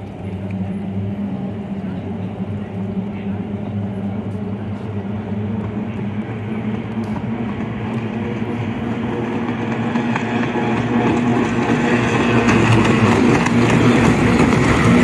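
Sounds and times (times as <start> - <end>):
outboard engines droning: 0.0 - 15.0.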